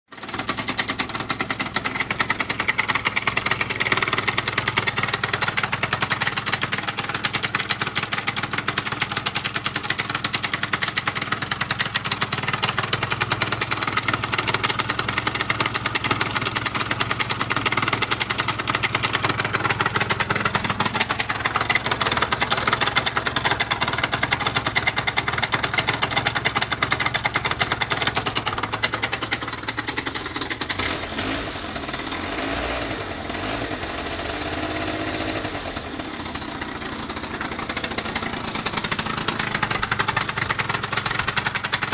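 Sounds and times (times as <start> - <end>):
rapid engine knocking: 0.1 - 41.9
scooter engine idling: 0.1 - 41.9.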